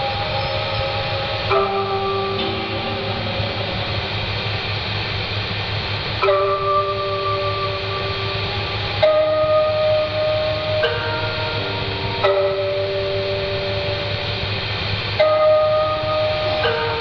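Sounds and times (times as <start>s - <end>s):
dark ambient music: 0.0s - 17.0s.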